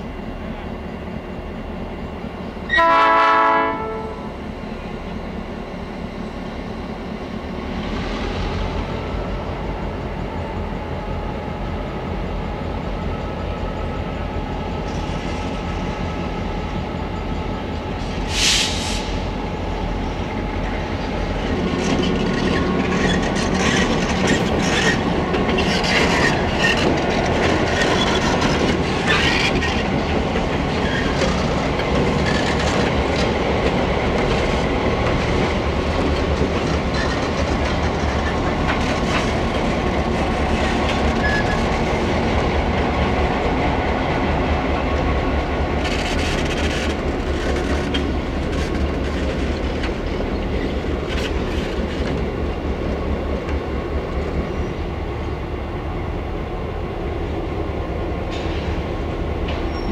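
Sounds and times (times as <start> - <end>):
locomotive engines droning: 0.0 - 59.9.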